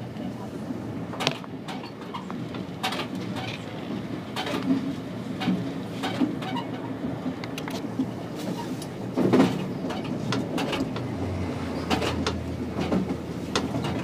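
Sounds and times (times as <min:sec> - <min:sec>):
train rumble: 0:00.0 - 0:14.0
train wheels clacking over rail joints: 0:01.1 - 0:14.0.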